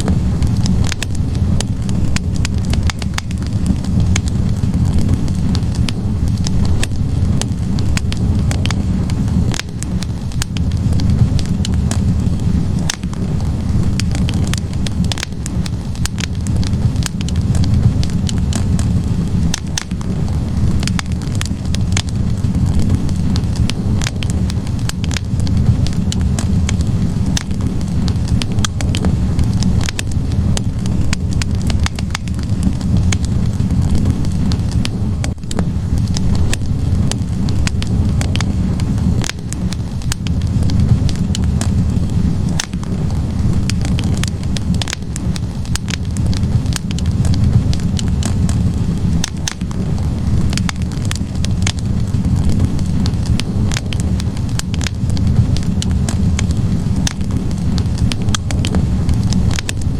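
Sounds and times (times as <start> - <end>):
fire roaring: 0.0 - 59.9
logs crackling and popping: 0.0 - 59.9.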